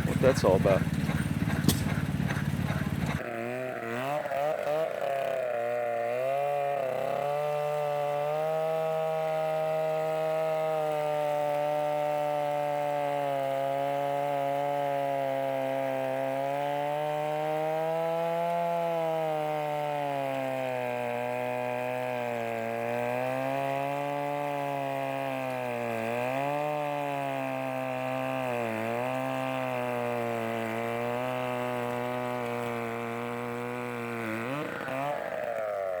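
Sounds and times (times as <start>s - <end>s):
chainsaw engine running: 0.0s - 36.0s.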